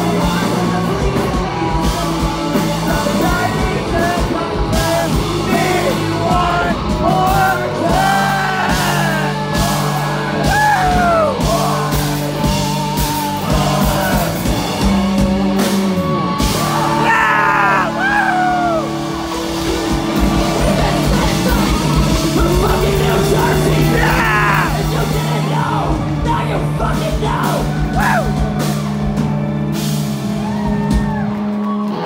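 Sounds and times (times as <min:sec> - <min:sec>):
yelling vocals: 0:00.0 - 0:28.9
live rock band playing: 0:00.0 - 0:32.0.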